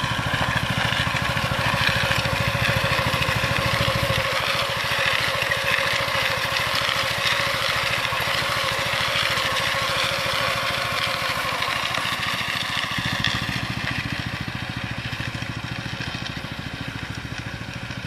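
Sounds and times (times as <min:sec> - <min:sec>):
small engine running: 0:00.0 - 0:18.0
tines rasping on gravel: 0:00.0 - 0:18.0.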